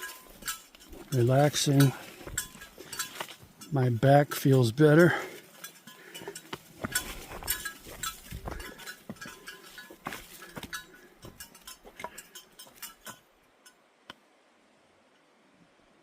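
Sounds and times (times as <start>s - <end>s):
footsteps on dirt trail: 0.0s - 13.2s
light metallic clinking: 0.0s - 13.8s.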